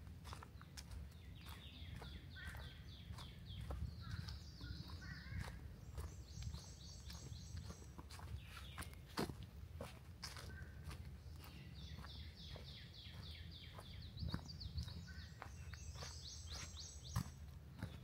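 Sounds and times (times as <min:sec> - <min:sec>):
footsteps on forest trail: 0:00.0 - 0:18.0.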